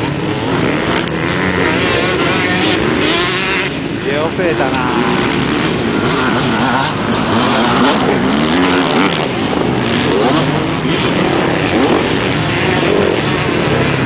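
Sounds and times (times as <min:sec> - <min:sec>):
off-road motorcycles revving: 0:00.0 - 0:14.0.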